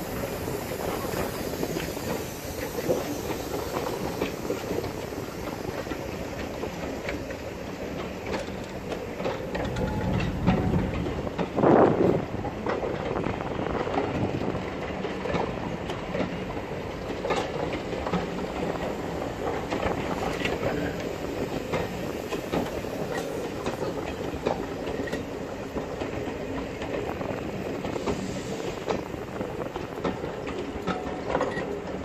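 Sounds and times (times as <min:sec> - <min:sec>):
train coaches rumbling past: 0:00.0 - 0:32.0
wheels clicking over rail joints: 0:00.1 - 0:32.0.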